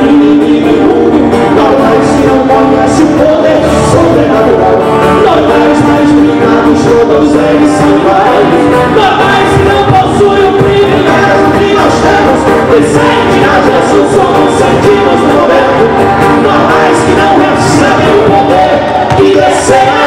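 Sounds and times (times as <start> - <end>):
man singing: 0.0 - 20.0
strummed acoustic guitars: 0.0 - 20.0.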